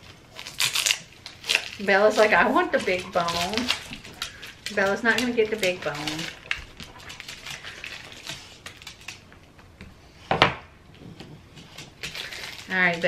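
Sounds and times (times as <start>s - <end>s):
plastic wrapper crinkling: 0.0s - 9.8s, 11.8s - 13.0s.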